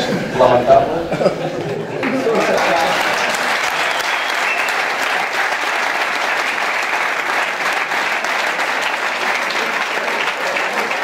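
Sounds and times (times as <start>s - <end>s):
crowd applauding: 1.9s - 11.0s.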